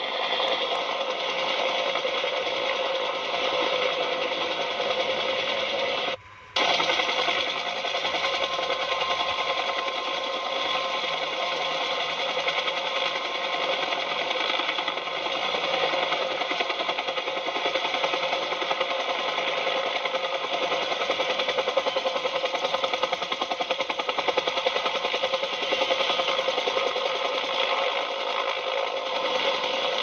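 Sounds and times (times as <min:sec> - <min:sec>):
toy motor rattling buzz: 0:00.0 - 0:30.0.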